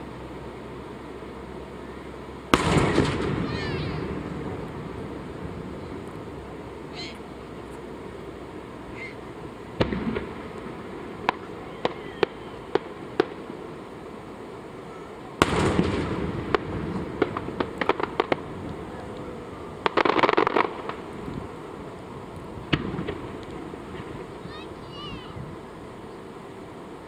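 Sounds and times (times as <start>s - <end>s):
fireworks bangs and cracks: 2.5s - 14.7s, 15.3s - 26.1s.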